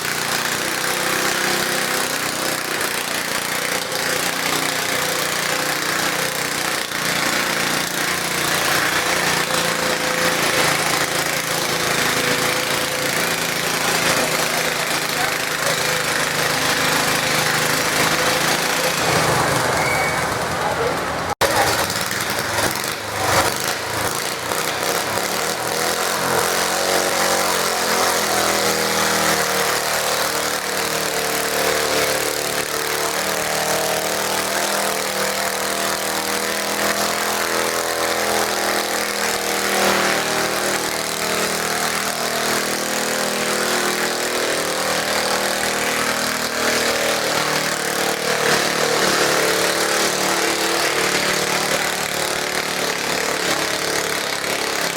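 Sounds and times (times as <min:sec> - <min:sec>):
garden tractor engine running: 0:00.0 - 0:54.9.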